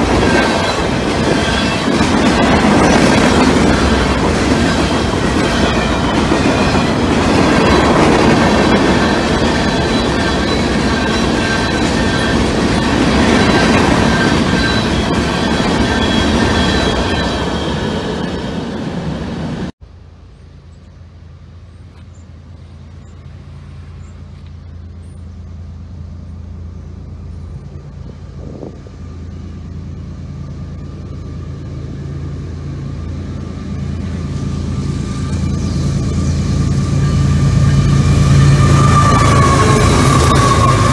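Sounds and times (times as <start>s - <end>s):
diesel locomotives humming: 0.0s - 40.9s
train wheels rolling on rail: 0.0s - 40.9s.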